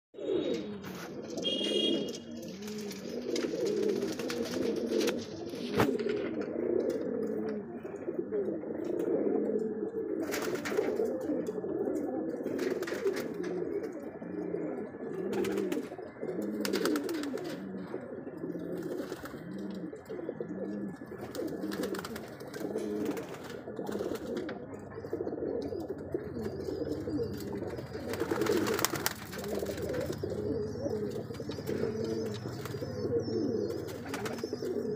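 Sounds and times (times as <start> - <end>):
pigeons cooing: 0.2 - 34.9.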